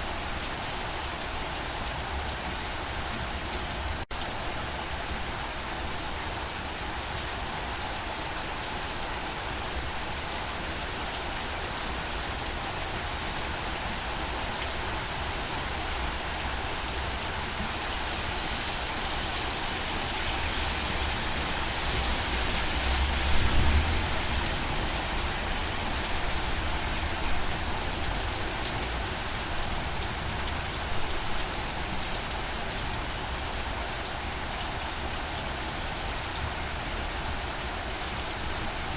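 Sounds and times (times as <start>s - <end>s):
rain pattering: 0.4s - 38.9s.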